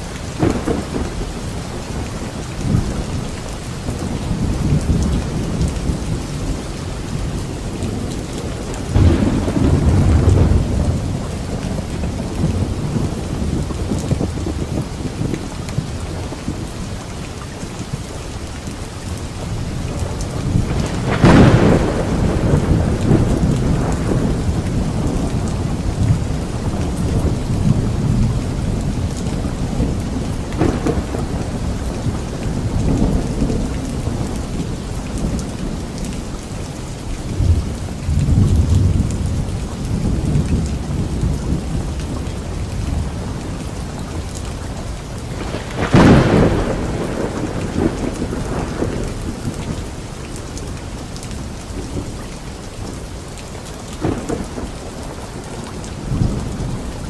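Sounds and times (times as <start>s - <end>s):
thunder rumbling: 0.0s - 17.0s, 19.0s - 57.0s
steady rain: 0.0s - 57.0s
loud thunderclaps: 0.2s - 16.7s, 19.5s - 36.3s, 37.3s - 50.8s, 54.0s - 57.0s.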